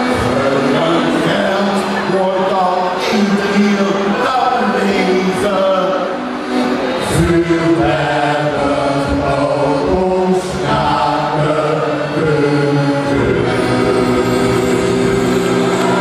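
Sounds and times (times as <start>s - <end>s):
accordion: 0.0s - 16.0s
man singing into a microphone: 0.0s - 16.0s.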